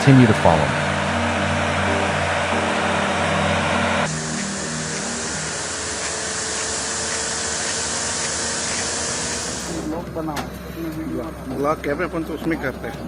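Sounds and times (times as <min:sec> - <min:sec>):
heavy machinery engine running: 0:00.0 - 0:13.0
hissy engine sound: 0:00.0 - 0:13.0.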